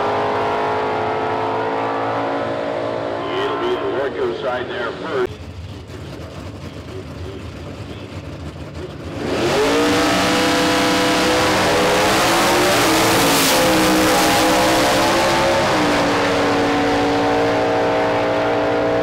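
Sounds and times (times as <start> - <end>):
drag car engines revving: 0.0 - 19.0.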